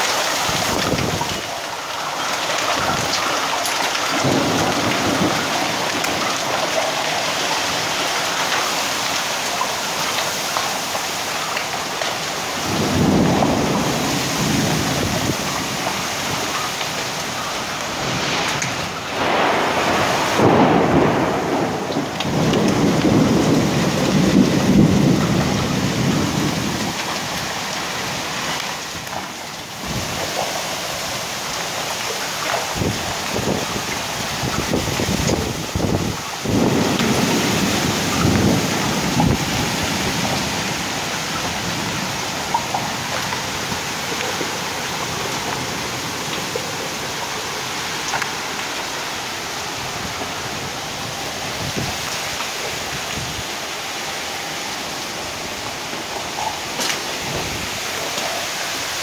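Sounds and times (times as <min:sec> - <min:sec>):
heavy rain and hail: 0:00.0 - 0:59.0
thunder rumbling: 0:02.3 - 0:09.6, 0:11.6 - 0:53.7.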